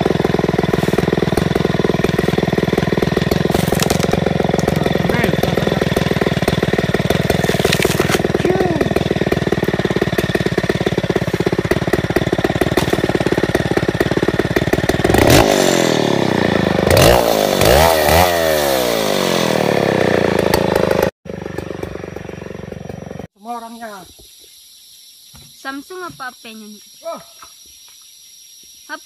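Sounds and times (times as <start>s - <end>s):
chainsaw running and revving: 0.0s - 23.3s.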